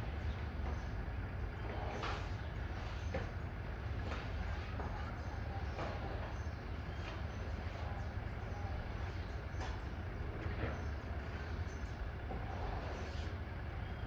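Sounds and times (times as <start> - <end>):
road noise: 0.0 - 14.0
truck diesel engine rumble: 0.0 - 14.0.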